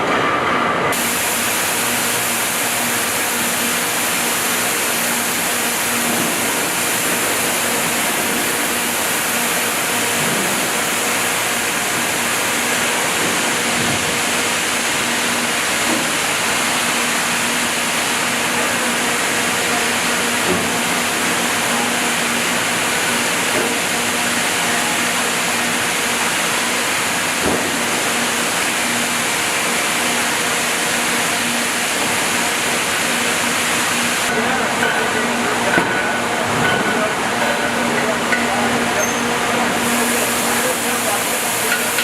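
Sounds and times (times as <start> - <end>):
machinery hiss: 0.9 - 42.0.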